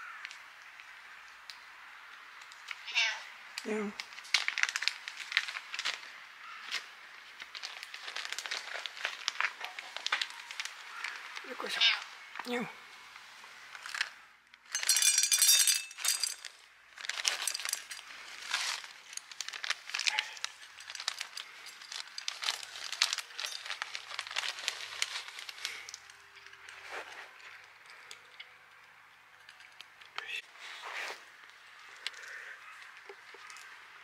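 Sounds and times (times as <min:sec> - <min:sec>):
crinkling and crackling: 0:03.6 - 0:34.0.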